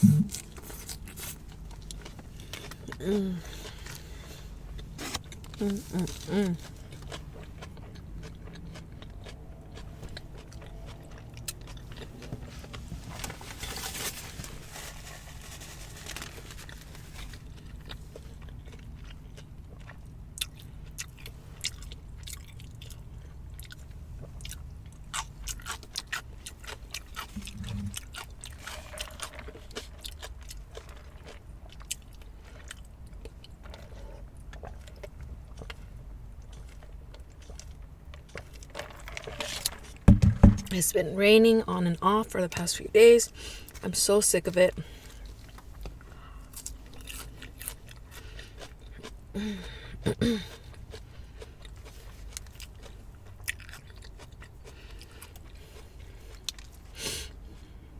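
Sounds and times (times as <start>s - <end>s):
chewing and crunching food: 0.0s - 57.9s.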